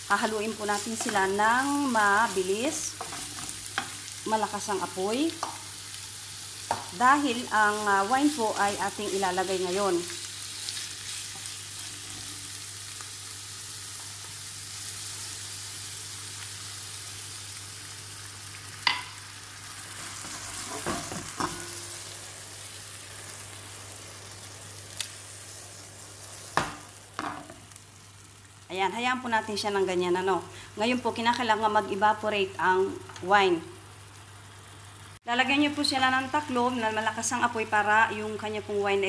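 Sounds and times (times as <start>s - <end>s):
fish sizzling in oil: 0.0s - 35.2s.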